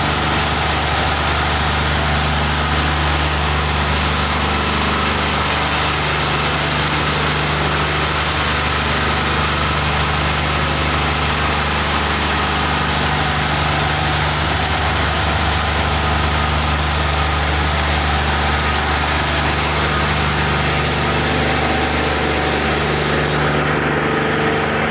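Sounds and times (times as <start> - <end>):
train washer low hum: 0.0 - 24.9.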